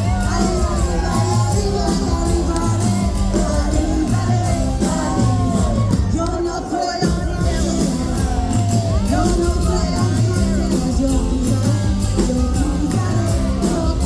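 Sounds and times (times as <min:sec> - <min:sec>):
bass and drums: 0:00.0 - 0:14.0
person singing lead: 0:00.0 - 0:14.0.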